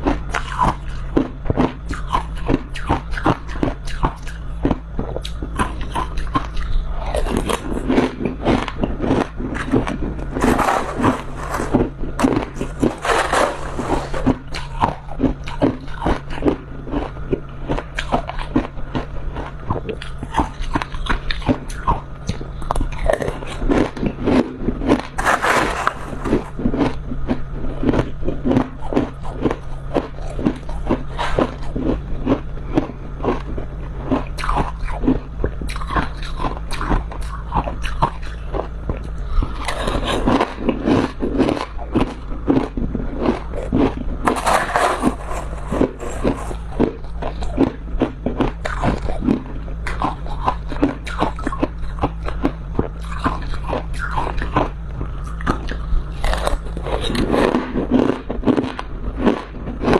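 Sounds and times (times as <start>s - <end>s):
frost being chewed crunching: 0.0s - 59.9s
steady low hum: 0.0s - 59.9s.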